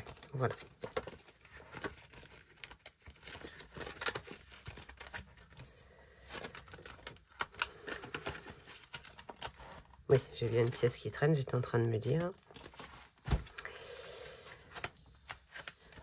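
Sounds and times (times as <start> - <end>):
paper rustling and crinkling: 0.0 - 13.6, 14.3 - 16.0.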